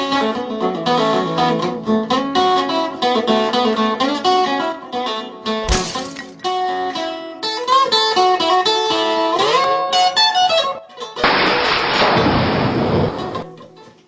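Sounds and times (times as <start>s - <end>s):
acoustic blues guitar: 0.0s - 14.0s.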